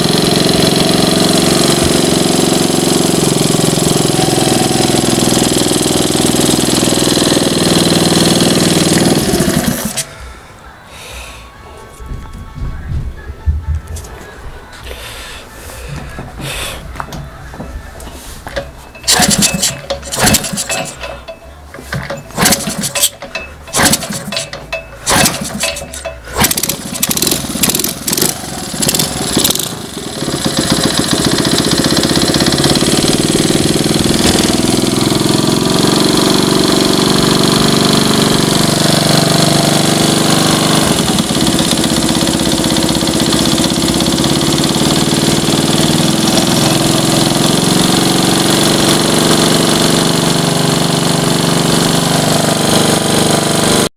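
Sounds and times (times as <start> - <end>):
engine sputtering and idling: 0.0 - 10.2, 17.0 - 53.9.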